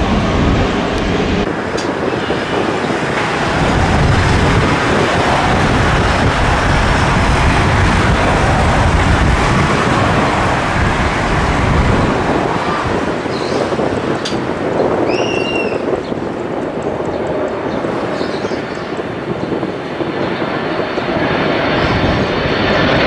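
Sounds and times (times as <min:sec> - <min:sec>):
jet engines roaring: 0:00.0 - 0:23.0
wind on microphone: 0:00.0 - 0:23.0.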